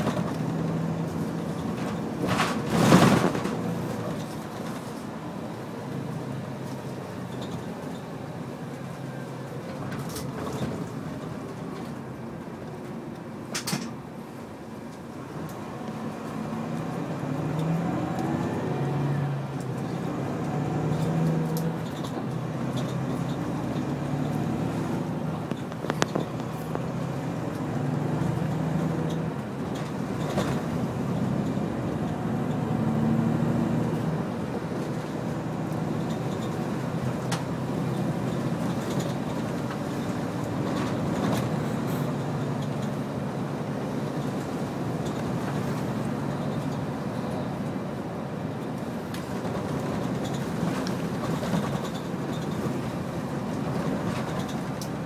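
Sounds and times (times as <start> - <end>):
coach engine and road noise: 0.0 - 55.0.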